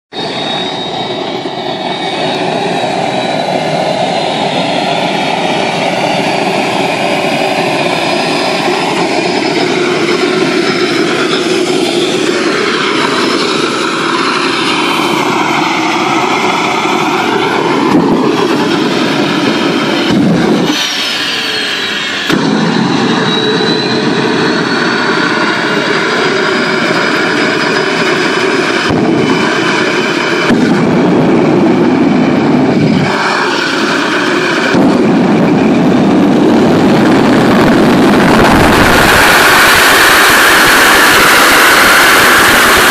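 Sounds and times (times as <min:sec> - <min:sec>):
jet turbine engine whine: 0:00.1 - 0:42.9.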